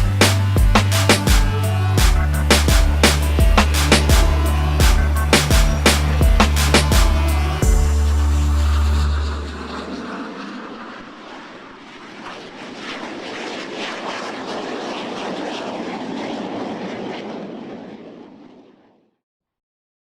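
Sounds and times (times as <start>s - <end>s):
steady rushing noise: 0.0s - 18.8s.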